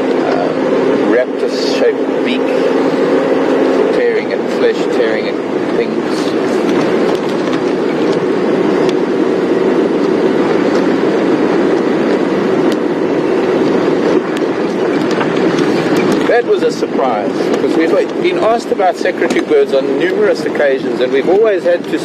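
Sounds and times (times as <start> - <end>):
vehicle body rattling: 0.0 - 22.0
vehicle engine and road noise: 0.0 - 22.0.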